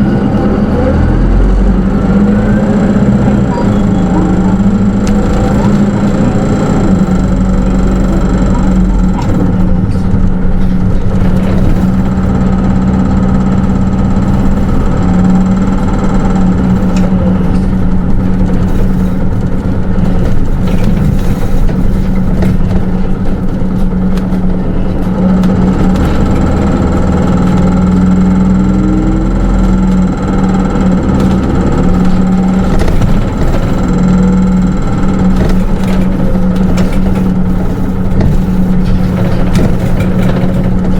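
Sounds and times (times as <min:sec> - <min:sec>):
bus diesel engine humming: 0:00.0 - 0:40.9
body clicks and rattles: 0:03.4 - 0:40.9.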